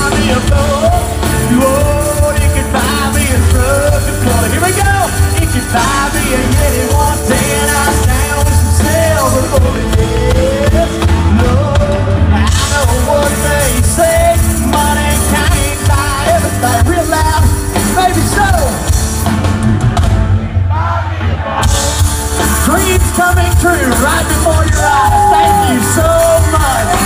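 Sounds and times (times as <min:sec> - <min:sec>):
live country band over loudspeakers: 0:00.0 - 0:27.0.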